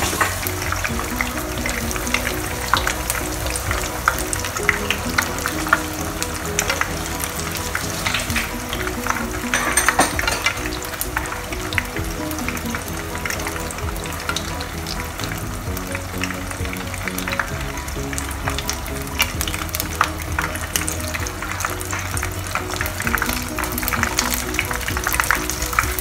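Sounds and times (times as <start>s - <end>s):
prawns deep-frying in oil: 0.0s - 26.0s
soft background music: 0.0s - 26.0s.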